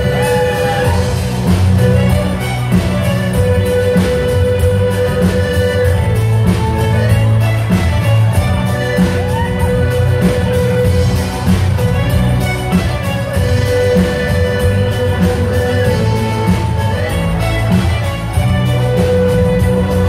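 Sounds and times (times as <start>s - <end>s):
accordion: 0.0s - 20.0s
bass: 0.0s - 20.0s
drums: 0.0s - 20.0s.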